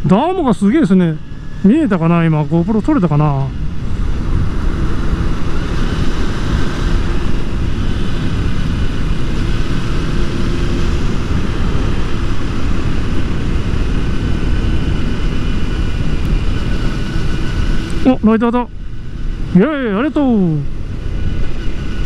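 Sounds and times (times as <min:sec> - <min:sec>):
faint motorcycle engine drone: 0:00.0 - 0:22.0
wind and road noise: 0:00.0 - 0:22.0.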